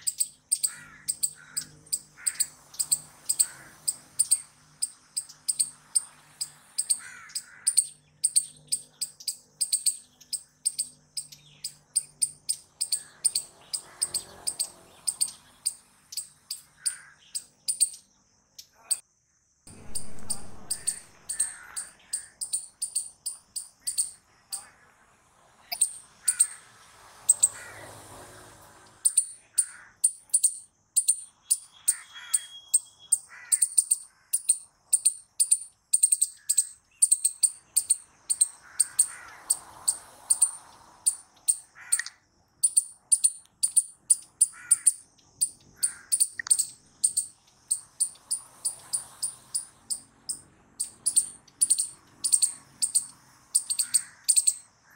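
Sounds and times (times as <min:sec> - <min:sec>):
squirrel chirping: 0:00.0 - 0:19.0, 0:19.7 - 0:24.8, 0:25.6 - 0:27.7, 0:28.9 - 0:54.9.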